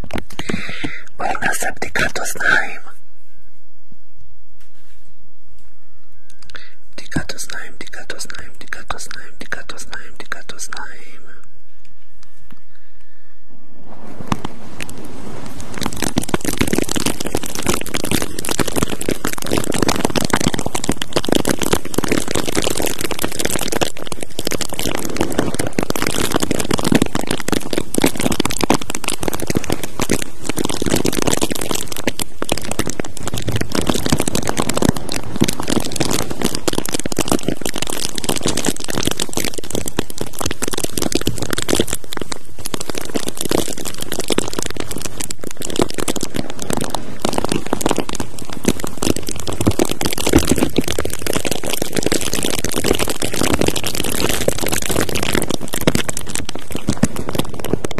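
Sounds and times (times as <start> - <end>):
crinkling against microphone: 0.0 - 3.6, 4.2 - 57.9.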